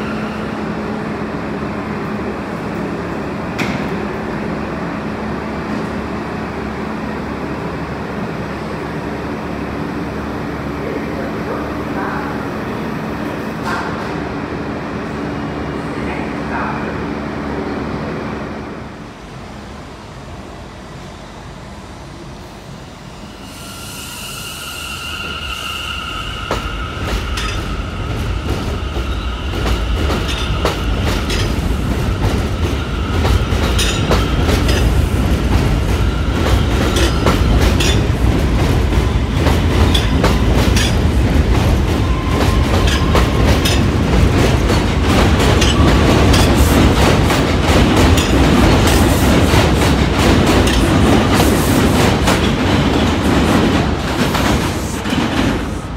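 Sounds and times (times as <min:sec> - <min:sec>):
standing train hum: 0:00.0 - 0:55.9
subway train rumble: 0:00.0 - 0:55.9.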